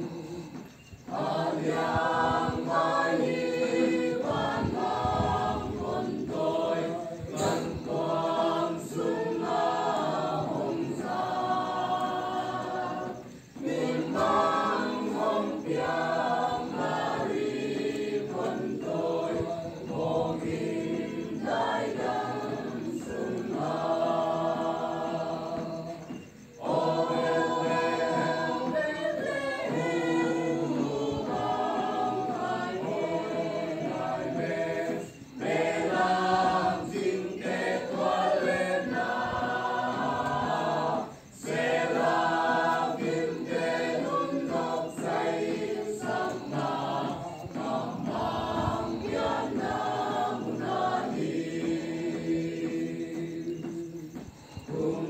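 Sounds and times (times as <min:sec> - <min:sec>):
small choir singing: 0:00.0 - 0:55.0.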